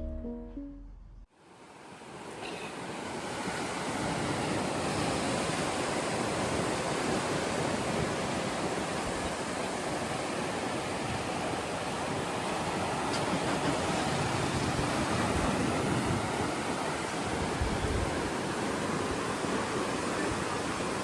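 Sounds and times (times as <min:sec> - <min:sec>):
ocean surf roaring: 0:01.7 - 0:21.0.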